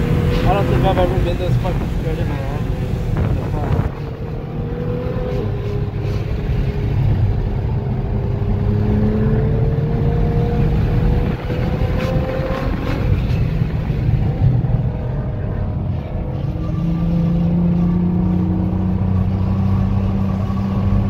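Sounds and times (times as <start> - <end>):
car engine accelerating: 0.0 - 21.0
road noise: 0.0 - 21.0.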